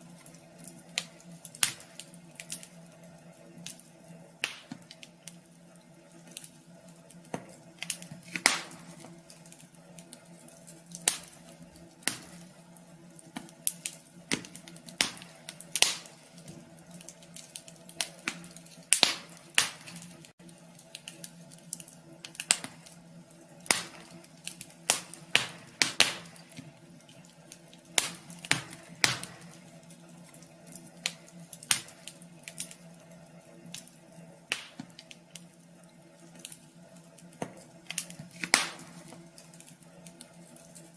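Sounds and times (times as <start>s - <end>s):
steady low hum: 0.0s - 40.9s
wood fire crackling in a stove: 0.0s - 40.9s.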